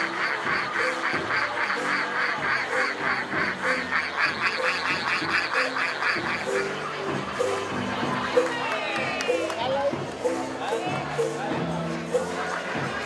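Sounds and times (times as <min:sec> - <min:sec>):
reedy folk music: 0:00.0 - 0:13.0.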